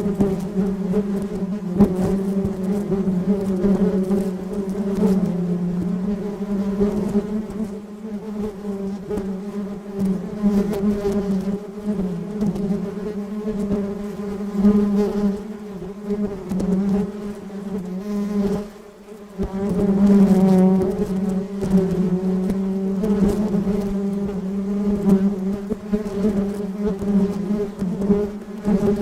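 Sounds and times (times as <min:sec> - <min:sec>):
bee buzzing: 0:00.0 - 0:29.0.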